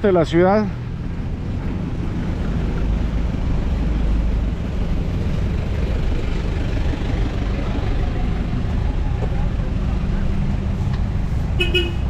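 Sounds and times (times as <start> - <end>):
car and truck engines running: 0.0 - 12.0.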